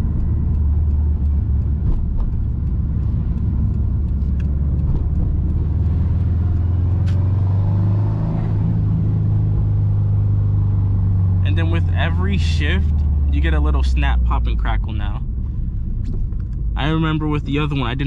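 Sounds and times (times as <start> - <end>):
car engine rumble from cabin: 0.0 - 18.0.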